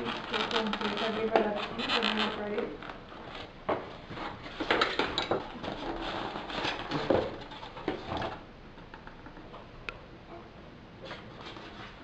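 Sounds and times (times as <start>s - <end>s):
clicks knocks and scraping of parts: 0.0s - 9.6s.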